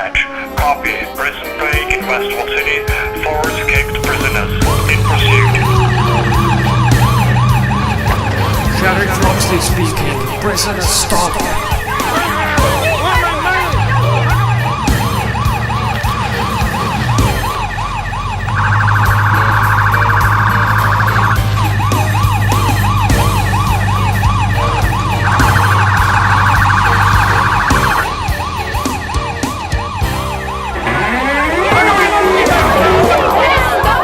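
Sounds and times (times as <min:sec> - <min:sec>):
police siren wailing: 0:00.0 - 0:34.0
siren yelp: 0:00.0 - 0:34.0.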